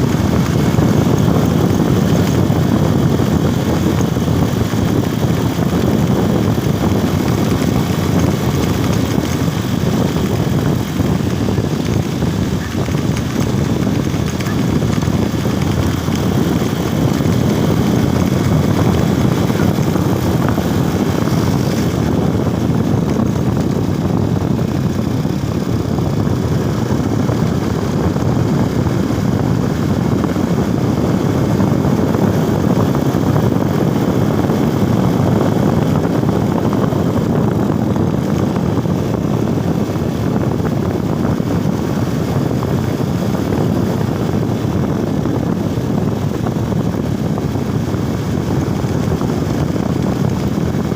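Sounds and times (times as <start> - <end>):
motorcycle engine and wind rush: 0.0 - 50.9.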